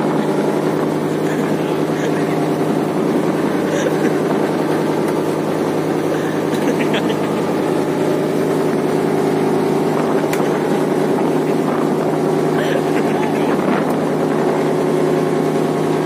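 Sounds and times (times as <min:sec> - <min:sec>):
diesel boat engine droning: 0:00.0 - 0:16.0.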